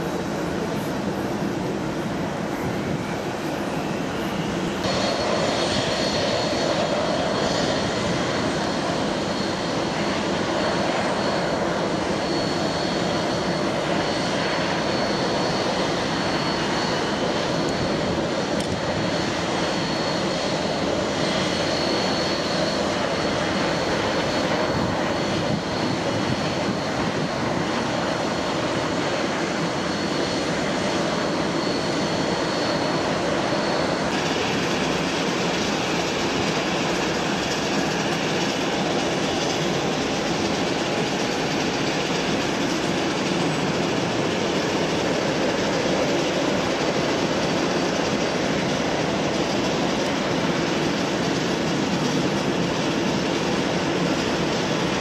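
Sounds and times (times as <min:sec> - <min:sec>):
jet turbine whine: 0:00.0 - 0:55.0.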